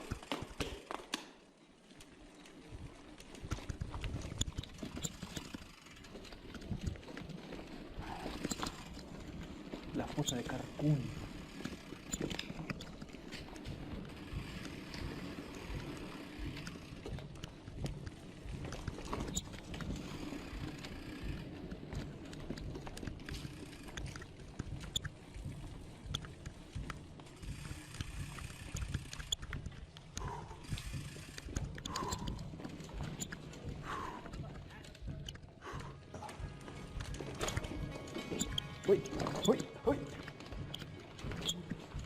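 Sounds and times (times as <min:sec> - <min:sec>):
mountain bike on rocky ground: 0:00.0 - 0:42.0.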